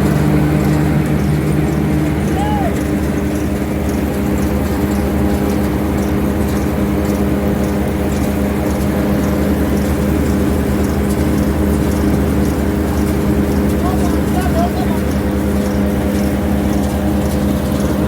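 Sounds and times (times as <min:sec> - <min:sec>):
silage chopping machinery engine drone: 0:00.0 - 0:18.0.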